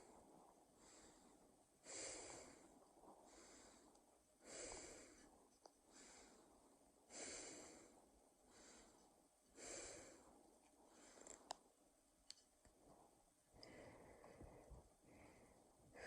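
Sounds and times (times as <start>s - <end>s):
faint human breathing: 0.0s - 11.8s, 12.6s - 16.0s.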